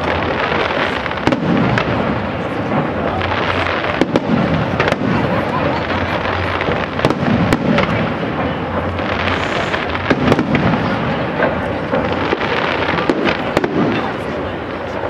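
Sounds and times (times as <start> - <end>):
fireworks bursting with sharp bangs: 0.0 - 15.0
fireworks crackling: 0.0 - 15.0.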